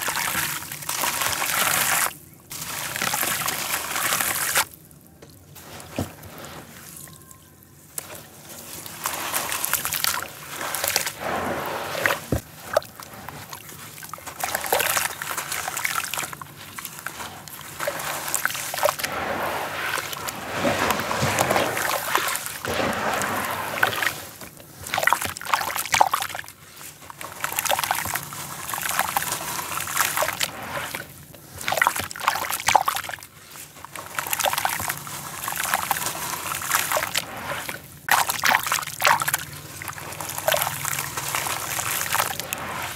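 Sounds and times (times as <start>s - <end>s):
hands sloshing muddy water: 0.0s - 4.8s, 5.6s - 42.9s
wet dirt crumbling: 0.0s - 42.9s.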